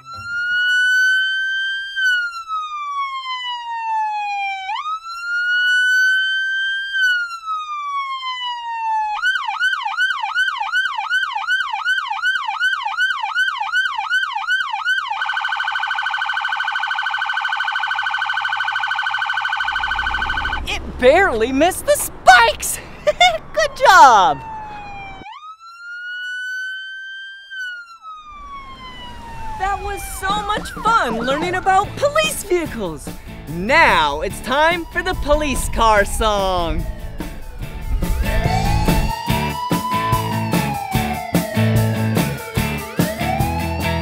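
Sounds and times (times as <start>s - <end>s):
police siren wailing and yelping: 0.0s - 44.0s.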